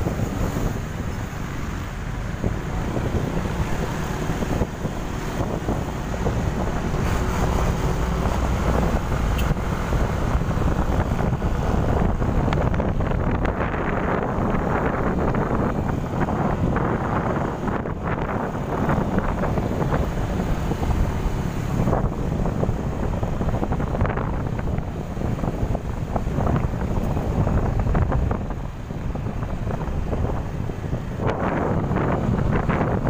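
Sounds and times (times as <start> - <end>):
engine and road noise: 0.0 - 33.0
wind rushing over microphone: 0.0 - 33.0.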